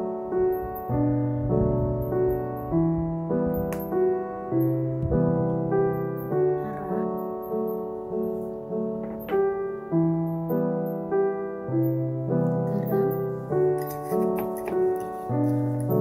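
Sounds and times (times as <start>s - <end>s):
piano melody of held notes: 0.0s - 16.0s.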